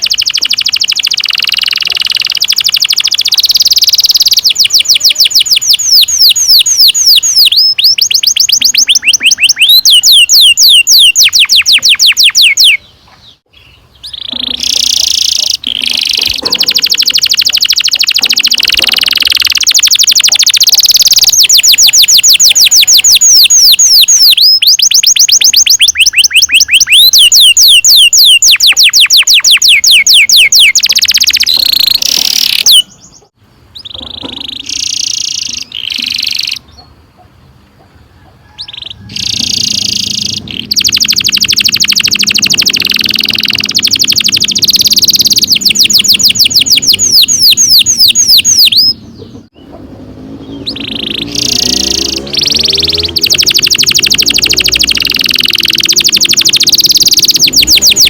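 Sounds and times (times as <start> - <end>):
canary trilling: 0.0 - 36.9, 38.2 - 58.0.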